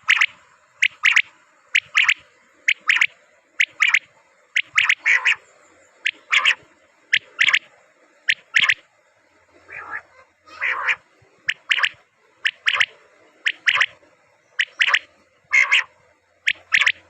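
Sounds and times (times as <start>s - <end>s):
game bird calling: 0.0s - 4.0s, 4.6s - 5.4s, 6.0s - 8.8s, 9.7s - 14.0s, 14.6s - 17.0s.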